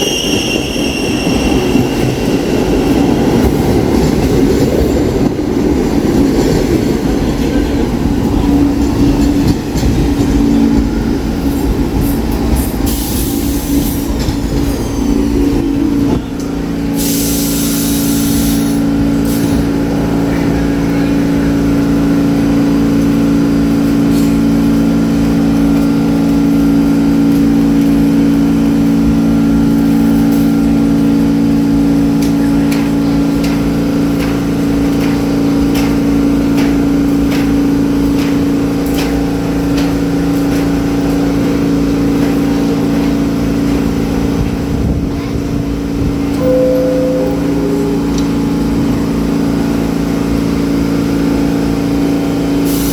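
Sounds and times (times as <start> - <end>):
subway train humming: 0.0 - 52.9.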